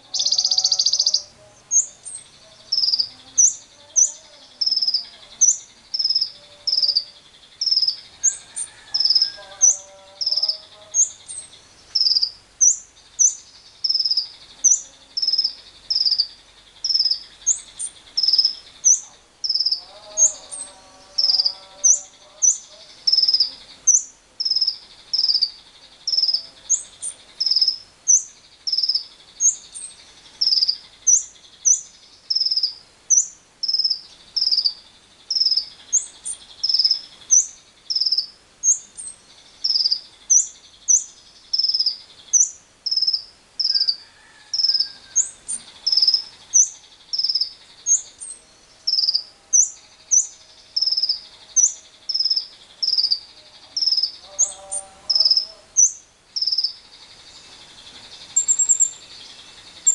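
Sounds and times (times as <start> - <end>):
insect drone: 0.0 - 59.9
lovebird chirping: 0.0 - 59.9.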